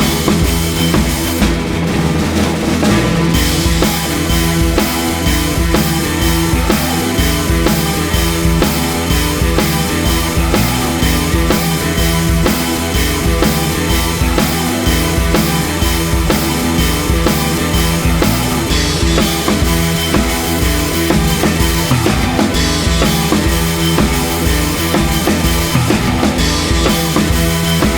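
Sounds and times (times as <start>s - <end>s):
rock music with driving drums: 0.0s - 27.9s.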